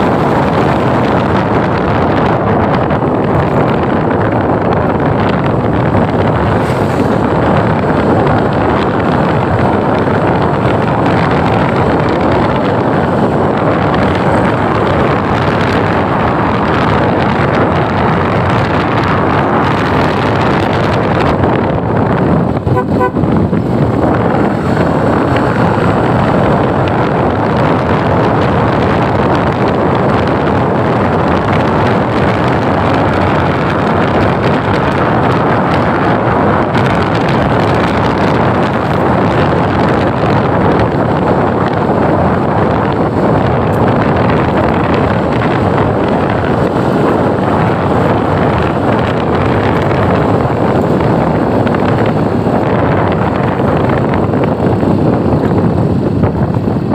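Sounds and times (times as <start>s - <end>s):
vehicle road noise: 0.0s - 56.9s
wind rushing over microphone: 0.0s - 56.9s.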